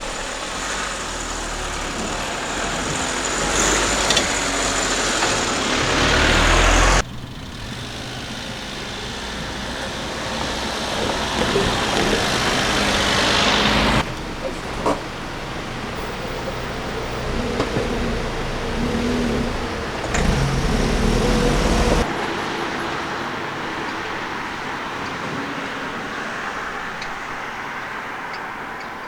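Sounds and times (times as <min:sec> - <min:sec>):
road vehicles passing: 0:00.0 - 0:29.0.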